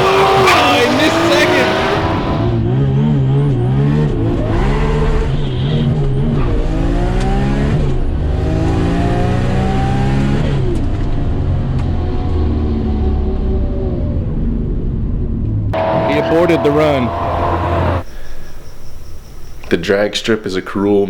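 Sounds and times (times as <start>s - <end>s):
car engine accelerating: 0.0s - 5.4s, 6.0s - 14.1s, 14.7s - 19.7s.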